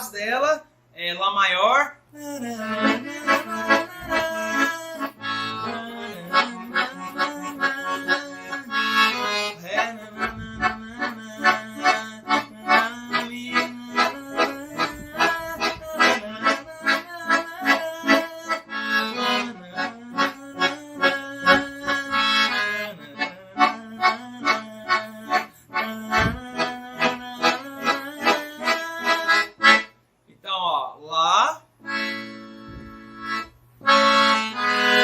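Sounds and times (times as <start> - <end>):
accordion playing: 2.4 - 30.0, 31.8 - 35.0.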